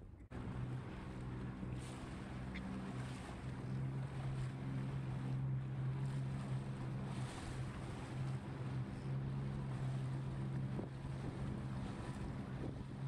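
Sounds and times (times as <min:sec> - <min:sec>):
boat engine running: 0:00.0 - 0:13.0
choppy water washing: 0:00.0 - 0:13.0
wind buffeting the microphone: 0:00.0 - 0:13.0.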